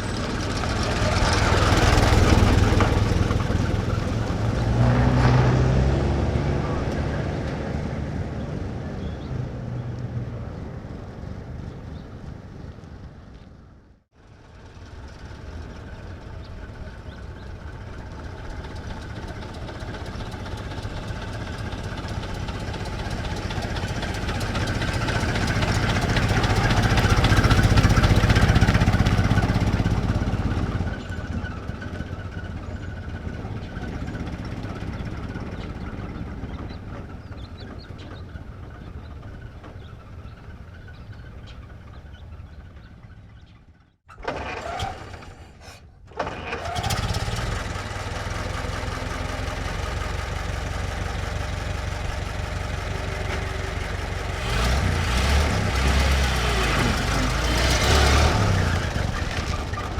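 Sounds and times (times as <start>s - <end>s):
old car engine driving past: 0.0s - 59.9s.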